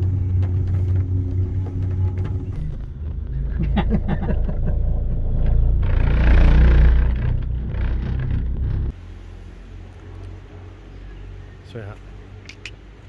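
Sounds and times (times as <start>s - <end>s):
cable car rumble: 0.0s - 11.5s.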